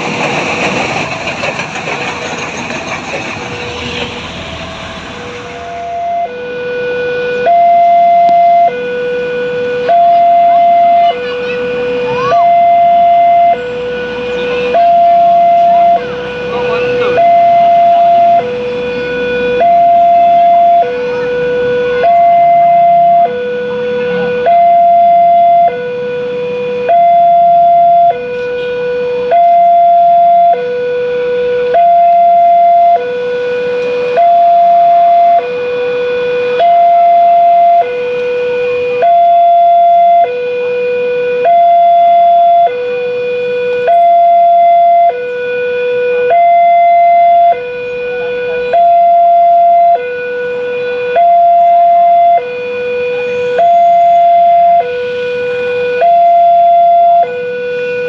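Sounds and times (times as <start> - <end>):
two-tone crossing alarm: 0.0 - 58.0.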